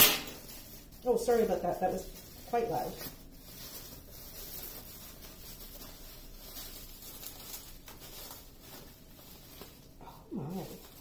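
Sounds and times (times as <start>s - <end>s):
bubble wrap rustling: 0.0s - 11.0s.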